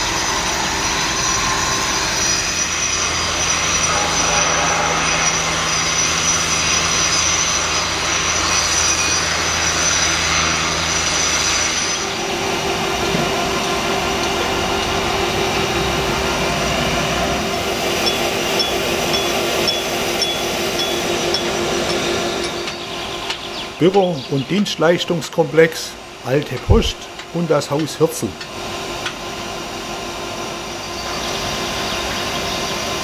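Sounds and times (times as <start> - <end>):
pulsing hum: 0.0 - 27.3
construction machinery drone: 0.0 - 33.0.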